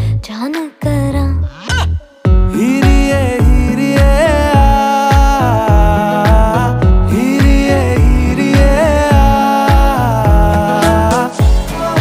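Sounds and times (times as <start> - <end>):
pop song with vocals: 0.0 - 12.0.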